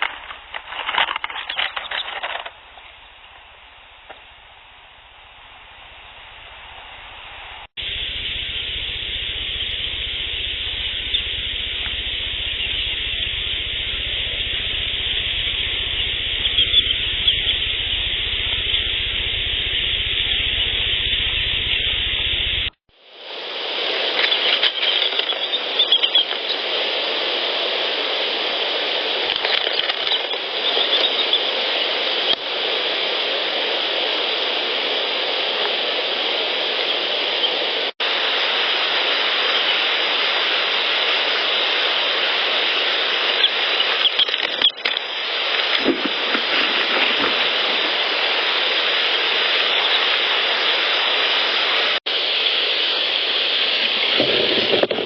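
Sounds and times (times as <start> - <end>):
loud steady hiss: 0.0 - 55.0.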